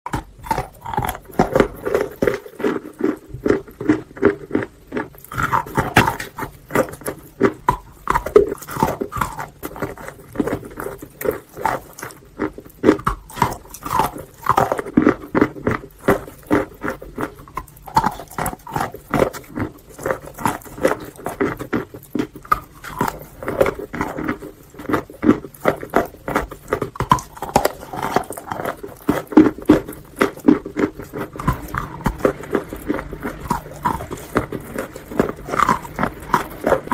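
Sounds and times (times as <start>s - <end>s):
chewing wet chalk crunches: 0.1s - 36.9s.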